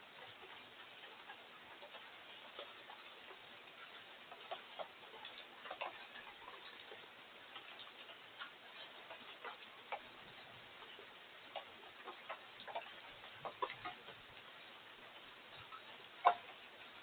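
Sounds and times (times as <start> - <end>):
light rain hiss: 0.0 - 17.0
water drops ticking: 0.0 - 17.0.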